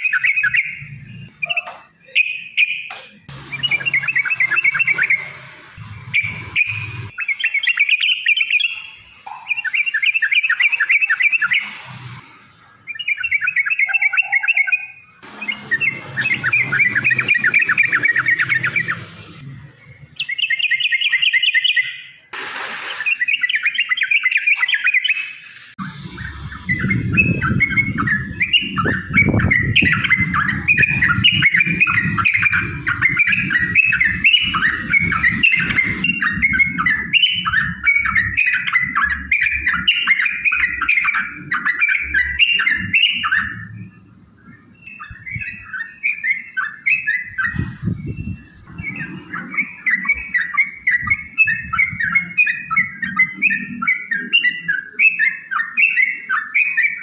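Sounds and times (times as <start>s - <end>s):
bulbul chattering song: 0.0s - 57.0s.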